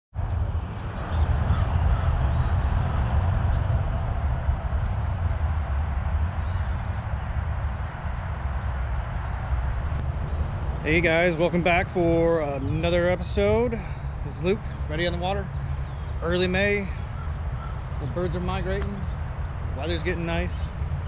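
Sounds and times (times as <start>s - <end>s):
low rumble: 0.1s - 21.0s
small birds chirping: 0.2s - 21.0s.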